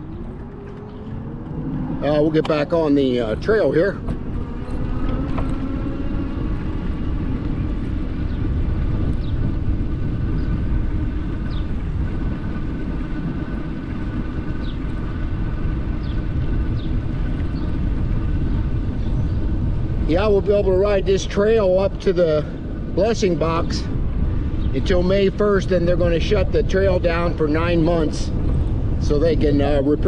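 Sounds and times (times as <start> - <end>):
bike tyre rumble on trail: 0.0 - 30.0
faint steady whine: 0.0 - 30.0
wind rushing over microphone: 0.0 - 30.0.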